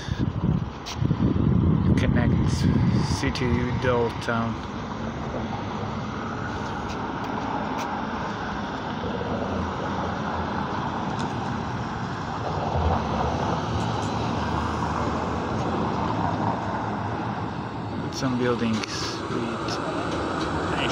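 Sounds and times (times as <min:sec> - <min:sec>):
street traffic rumble: 0:00.0 - 0:20.9.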